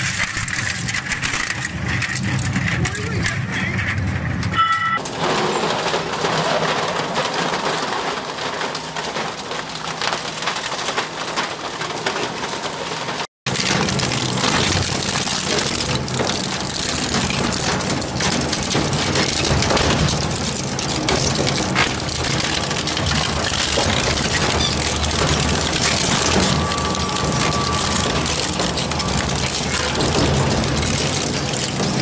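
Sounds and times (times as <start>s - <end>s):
shredder crunching plastic: 0.0s - 3.8s, 5.0s - 32.0s
shredder chewing metal frame: 0.0s - 32.0s.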